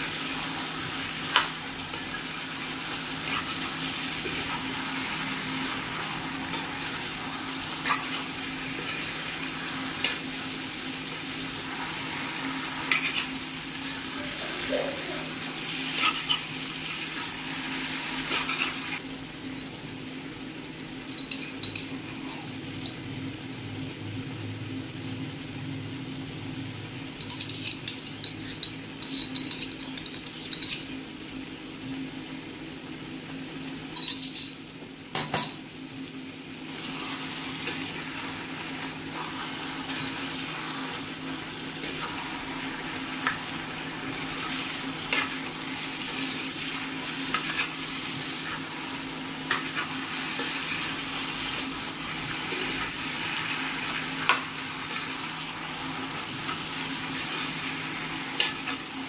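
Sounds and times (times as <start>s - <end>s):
meat and onions sizzling in a pan: 0.0s - 59.0s.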